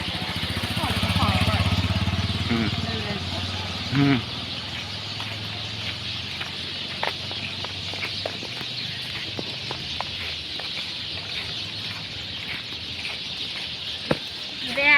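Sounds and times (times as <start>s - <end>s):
birds chirping: 0.0s - 14.9s
high-pitched bird chorus: 0.0s - 14.9s.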